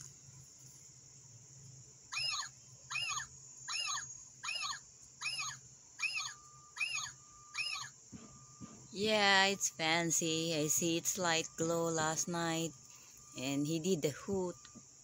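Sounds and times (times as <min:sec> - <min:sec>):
faint high whine: 0:00.0 - 0:15.0
electronic owl call squeals: 0:02.1 - 0:14.8.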